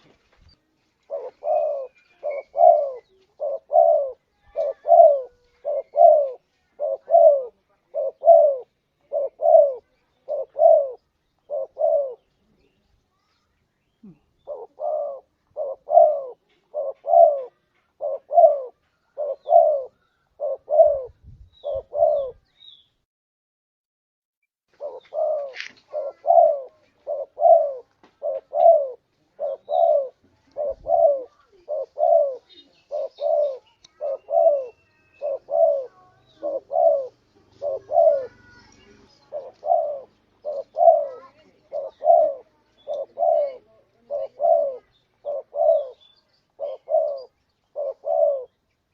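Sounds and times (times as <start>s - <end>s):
dove cooing: 1.0s - 12.6s, 14.0s - 22.5s, 24.8s - 48.6s.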